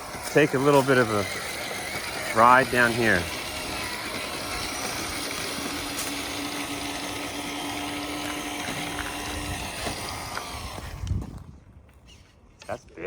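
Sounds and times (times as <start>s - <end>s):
electric motor whining: 0.0s - 12.3s.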